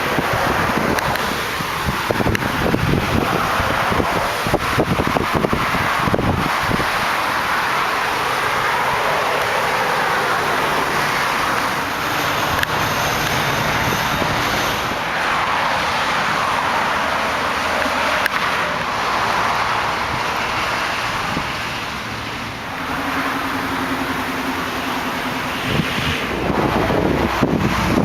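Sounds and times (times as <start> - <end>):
highway traffic rushing: 0.0 - 28.0.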